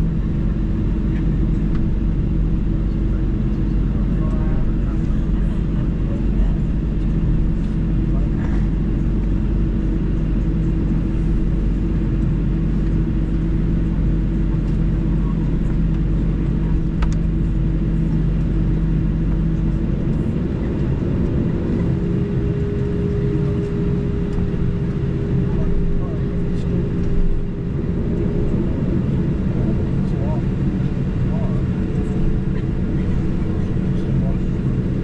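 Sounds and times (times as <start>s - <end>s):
aircraft cabin systems hum: 0.0s - 35.0s.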